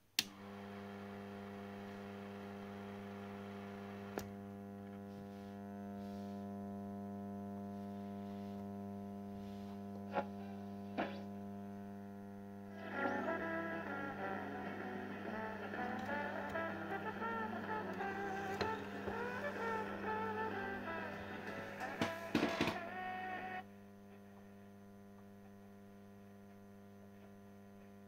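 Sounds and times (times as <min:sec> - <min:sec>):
amplifier mains hum: 0:00.0 - 0:28.0.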